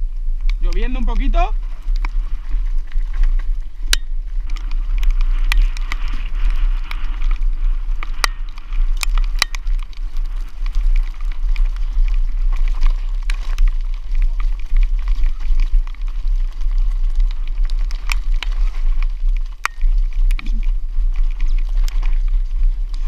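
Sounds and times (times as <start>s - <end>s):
bike rattles and clicks: 0.0s - 23.0s
tyres on loose dirt and gravel: 0.0s - 23.0s
wind rumble on microphone: 0.0s - 23.0s.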